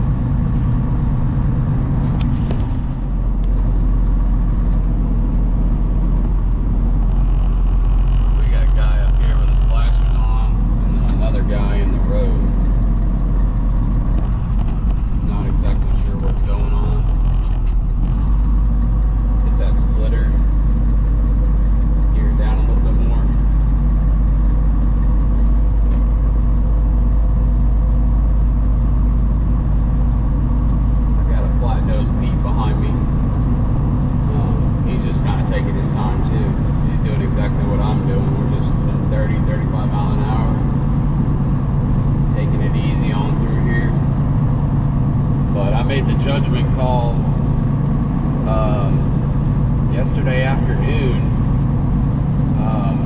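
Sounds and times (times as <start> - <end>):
road noise: 0.0 - 53.0
truck diesel engine drone: 0.0 - 53.0.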